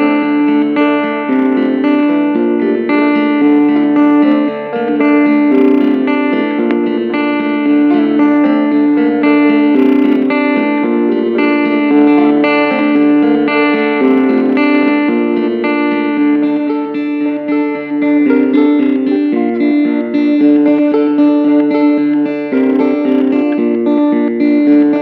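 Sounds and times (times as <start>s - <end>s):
guitar improvising: 0.0s - 25.0s.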